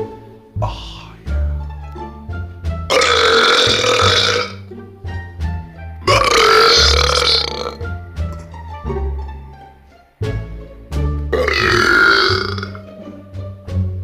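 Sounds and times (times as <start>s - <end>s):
background music with bass: 0.0s - 14.0s.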